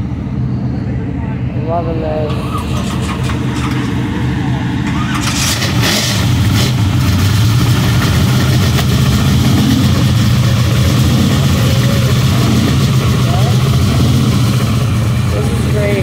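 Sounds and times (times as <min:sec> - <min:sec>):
car engines idling: 0:00.0 - 0:16.0.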